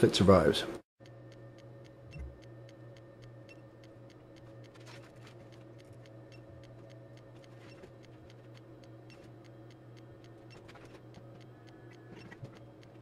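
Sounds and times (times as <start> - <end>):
low equipment hum: 0.0 - 13.0
small electrical discharge clicks: 1.0 - 13.0.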